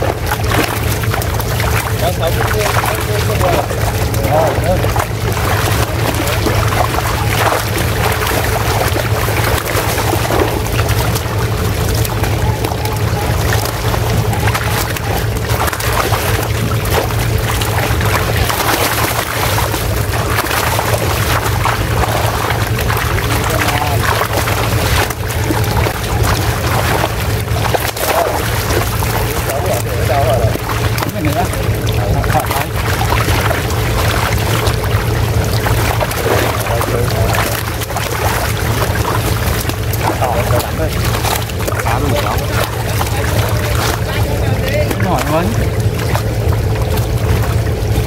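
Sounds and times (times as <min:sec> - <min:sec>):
baskets sloshing water: 0:00.0 - 0:48.0
fish thrashing and splashing: 0:00.0 - 0:48.0
low motor hum: 0:00.0 - 0:48.0.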